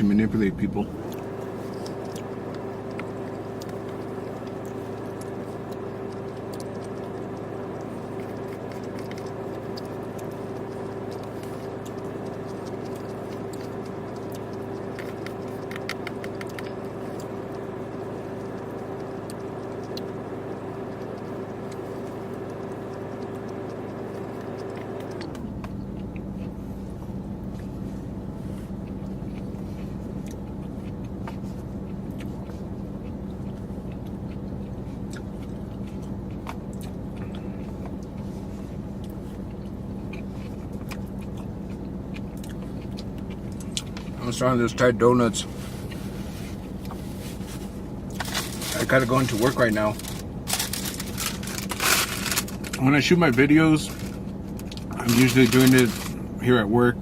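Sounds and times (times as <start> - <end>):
steady mechanical hum: 0.0 - 57.0.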